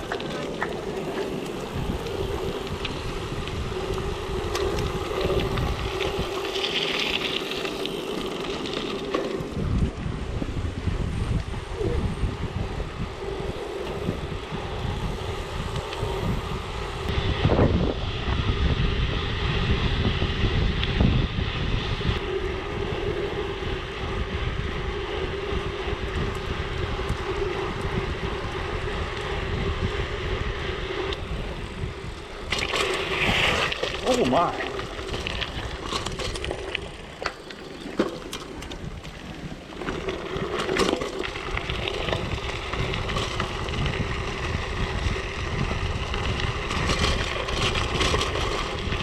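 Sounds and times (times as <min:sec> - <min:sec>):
bike rattling: 0:00.0 - 0:49.0
bike tyres rolling on road: 0:00.0 - 0:49.0
wind buffeting microphone: 0:00.0 - 0:49.0.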